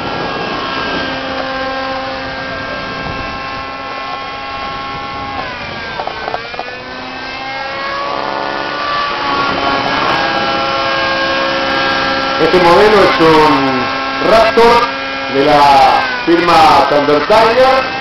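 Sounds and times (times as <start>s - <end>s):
model helicopter engine and rotor whine: 0.0s - 18.0s.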